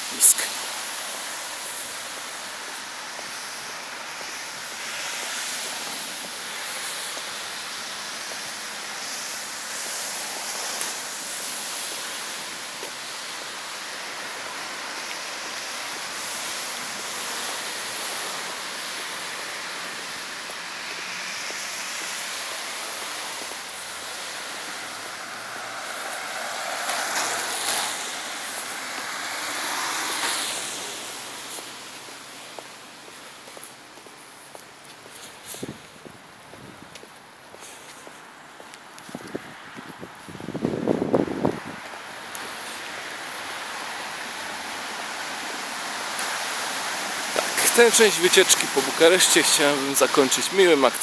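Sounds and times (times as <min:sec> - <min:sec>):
tyres hissing on wet road: 0:00.0 - 0:51.0.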